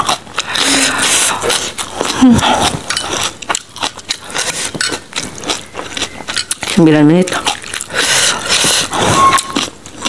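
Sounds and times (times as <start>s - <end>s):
person chewing with mouth smacks: 0.0s - 10.0s.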